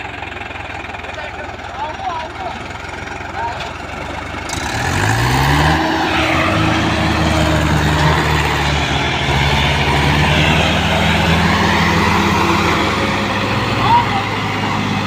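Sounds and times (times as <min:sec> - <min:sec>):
tractor diesel engine: 0:00.0 - 0:15.0.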